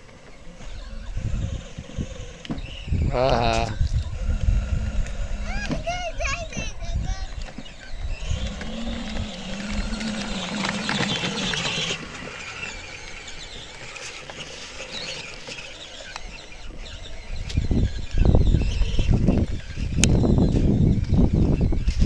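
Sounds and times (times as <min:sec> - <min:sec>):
toy electric motor whining: 0:00.3 - 0:22.0.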